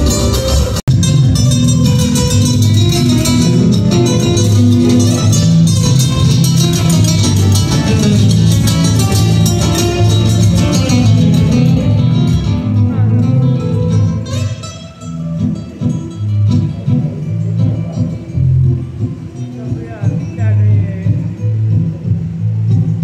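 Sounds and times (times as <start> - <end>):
amplified guitars playing: 0.0 - 23.0.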